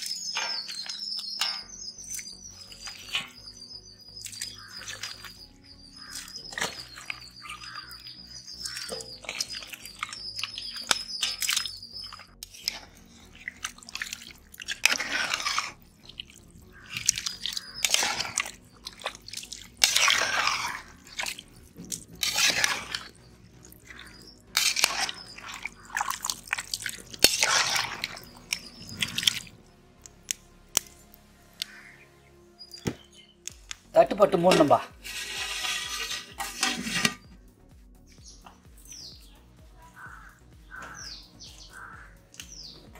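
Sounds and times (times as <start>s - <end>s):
wet squelching stirring: 0.0s - 32.0s, 32.7s - 37.4s, 39.9s - 42.9s.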